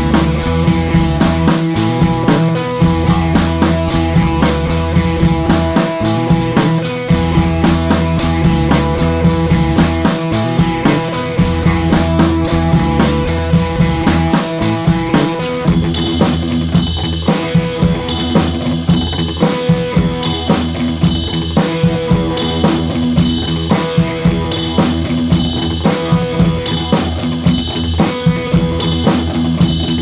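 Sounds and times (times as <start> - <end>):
background music with drum beat: 0.0 - 30.0.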